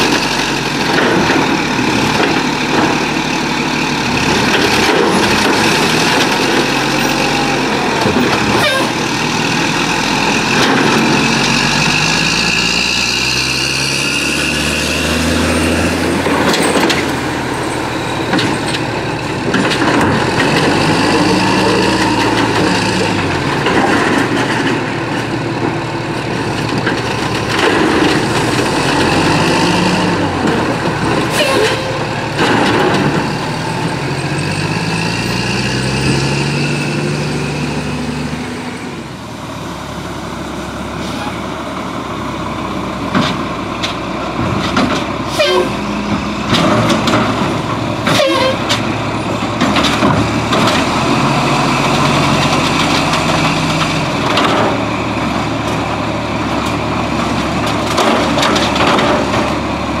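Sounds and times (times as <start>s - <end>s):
garbage truck engine revving: 0.0s - 60.0s.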